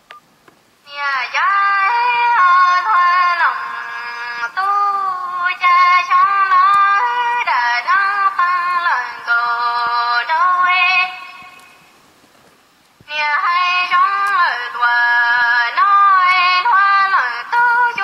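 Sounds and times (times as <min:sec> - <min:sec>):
high-pitched singing: 0:00.9 - 0:11.7, 0:13.1 - 0:18.0.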